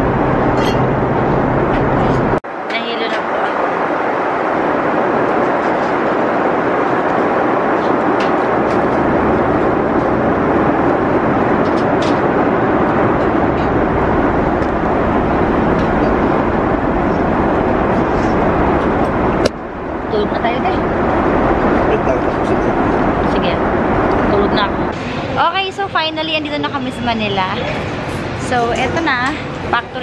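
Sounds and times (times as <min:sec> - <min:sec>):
jet cabin engine and airflow noise: 0:00.0 - 0:30.0.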